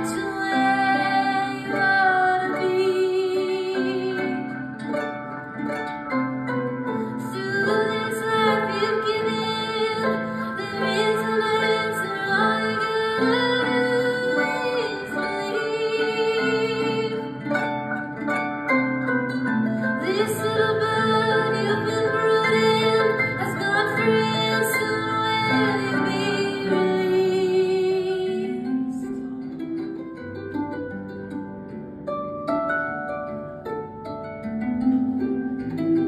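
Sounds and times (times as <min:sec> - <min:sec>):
plucked harp: 0:00.0 - 0:36.0
sliding held melody line: 0:00.0 - 0:36.0.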